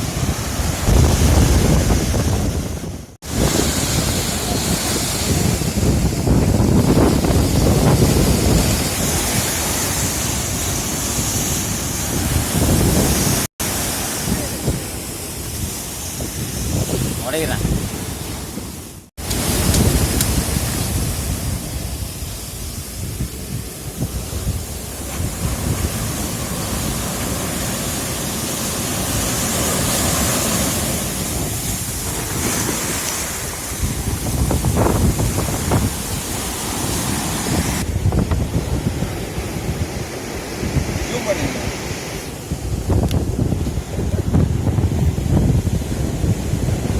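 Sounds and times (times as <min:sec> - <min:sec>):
sea waves washing on shore: 0:00.0 - 0:46.9
wind buffeting microphone: 0:00.0 - 0:46.9.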